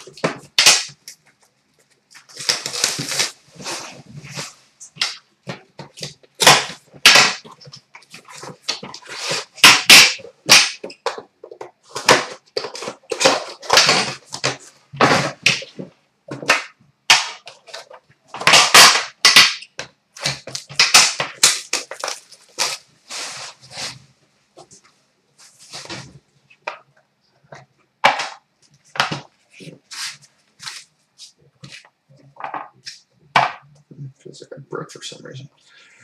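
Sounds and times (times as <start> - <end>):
crackling and rustling noise: 0.0 - 35.6.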